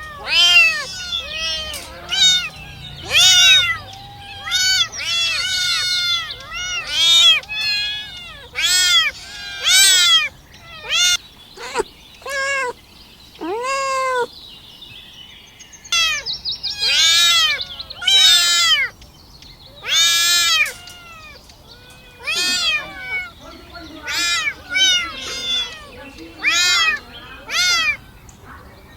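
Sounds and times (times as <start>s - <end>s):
kittens mewing: 0.0s - 14.4s, 15.9s - 19.0s, 19.7s - 28.7s.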